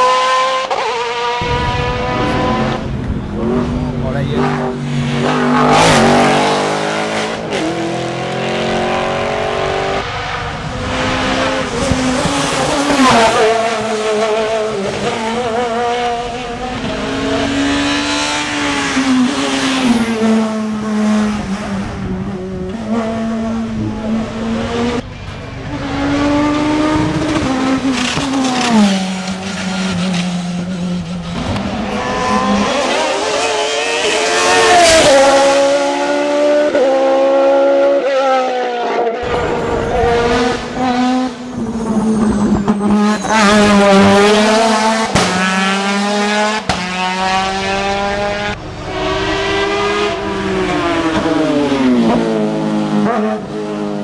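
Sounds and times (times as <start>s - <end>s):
racing car engine at high revs: 0.0s - 54.0s.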